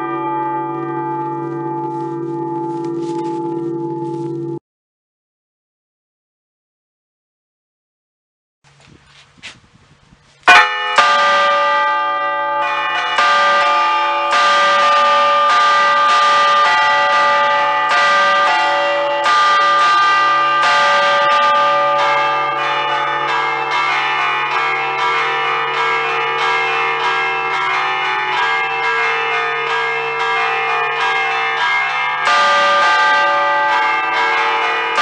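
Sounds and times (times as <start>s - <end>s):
church bells chiming a tune: 0.0s - 4.6s, 10.4s - 35.0s.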